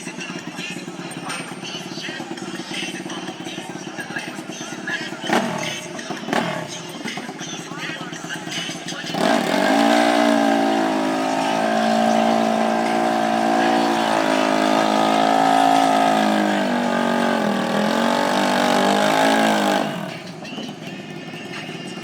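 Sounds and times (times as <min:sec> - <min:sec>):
racing engine at high revs: 0:00.0 - 0:22.0.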